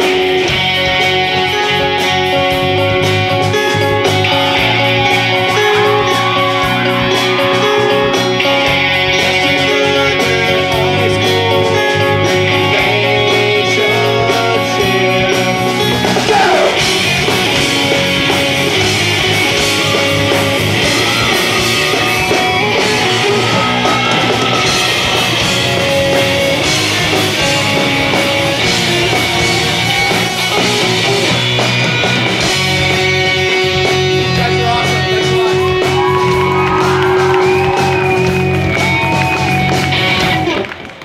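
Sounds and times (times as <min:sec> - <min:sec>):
live rock band: 0:00.0 - 0:41.0.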